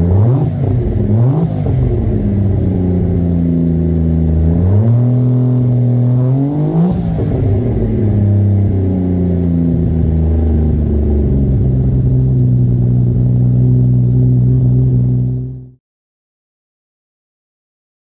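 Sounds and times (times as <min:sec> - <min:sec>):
car engine revving and idling: 0:00.0 - 0:15.8.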